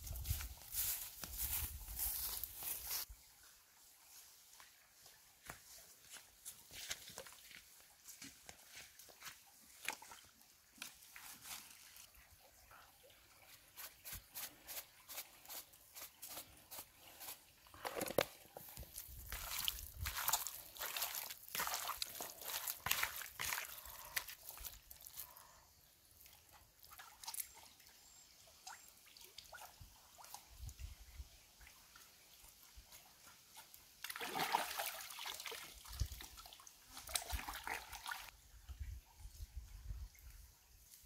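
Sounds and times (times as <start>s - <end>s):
water splashing and sloshing: 0.6s - 25.4s, 26.2s - 27.9s, 28.5s - 40.4s.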